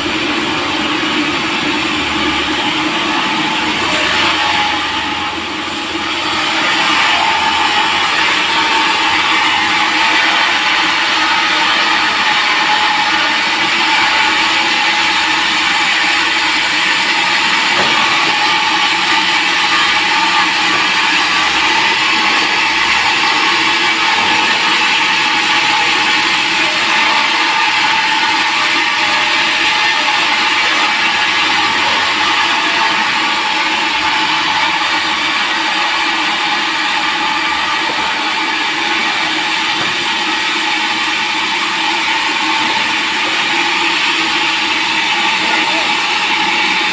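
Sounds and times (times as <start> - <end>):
saw cutting through log: 0.0 - 46.9.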